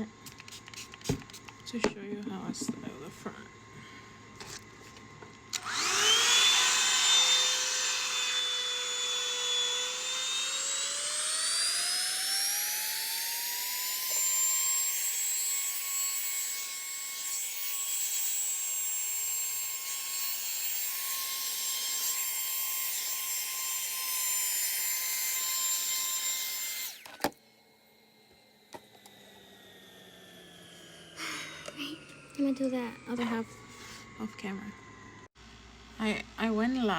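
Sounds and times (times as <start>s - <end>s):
hair dryer motor whine: 0.0s - 35.4s.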